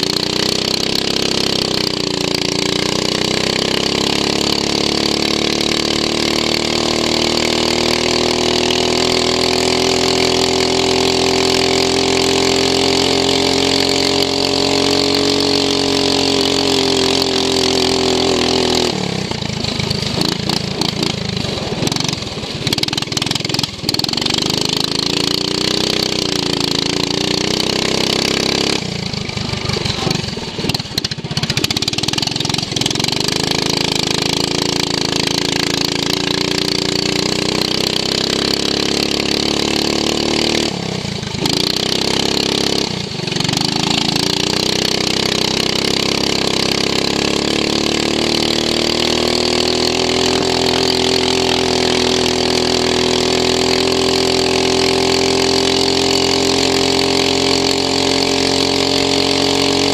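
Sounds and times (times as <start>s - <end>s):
lawn mower engine revving: 0.0s - 59.9s.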